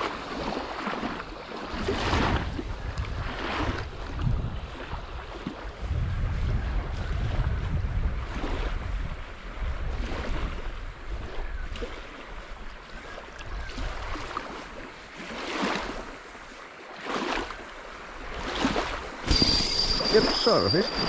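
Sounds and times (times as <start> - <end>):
wind buffeting microphone: 0.0 - 16.3, 17.4 - 21.0
small waves washing at shoreline: 0.0 - 21.0.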